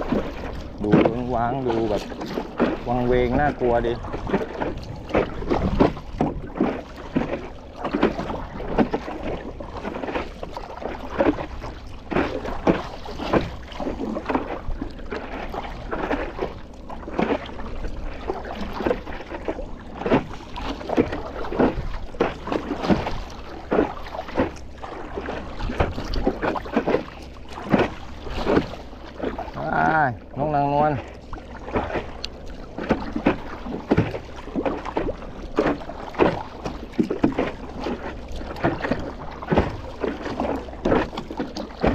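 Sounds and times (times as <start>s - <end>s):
low wind rumble on microphone: 0.0s - 41.9s
paddle strokes splashing: 0.0s - 41.9s
water slapping against a board: 0.0s - 41.9s.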